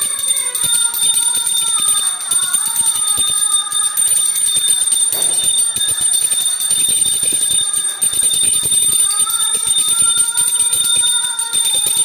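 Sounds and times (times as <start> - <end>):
hand bell ringing rapidly: 0.0 - 12.0.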